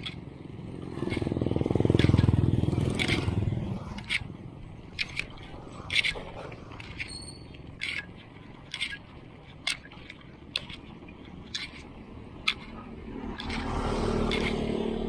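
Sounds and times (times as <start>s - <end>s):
motorcycle engine: 0.0s - 9.0s, 10.1s - 15.0s
bicycle clicking: 0.0s - 15.0s
low road rumble: 0.0s - 15.0s.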